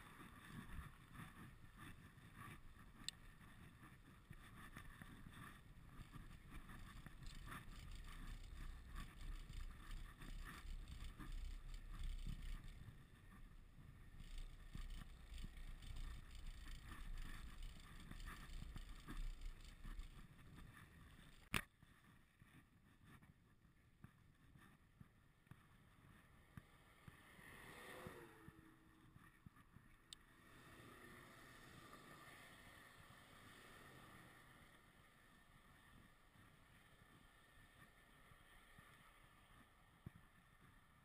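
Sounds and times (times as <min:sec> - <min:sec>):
bicycle tyre noise: 0:00.0 - 0:22.6, 0:25.5 - 0:41.0.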